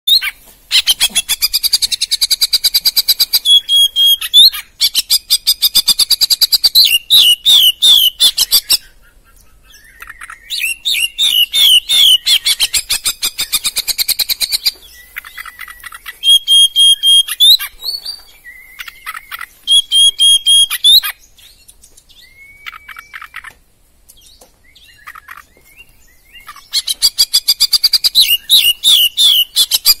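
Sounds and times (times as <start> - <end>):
songbird singing rapid notes: 0.1 - 30.0.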